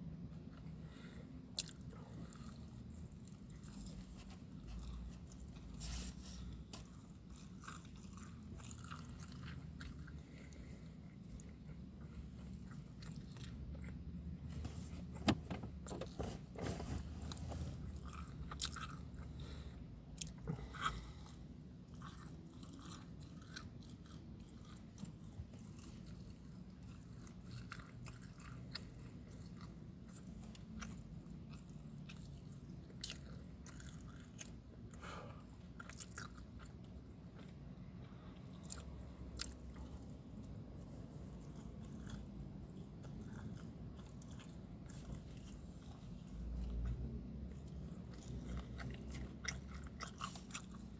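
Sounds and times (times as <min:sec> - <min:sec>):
low steady hum: 0:00.0 - 0:50.9
person chewing and biting food: 0:00.4 - 0:14.4, 0:17.2 - 0:50.9.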